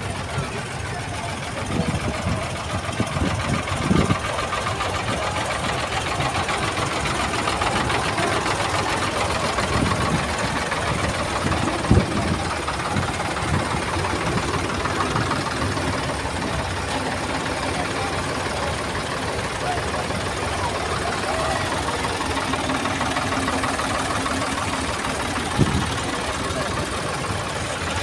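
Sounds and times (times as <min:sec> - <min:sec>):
tractor engines knocking: 0:00.0 - 0:28.0.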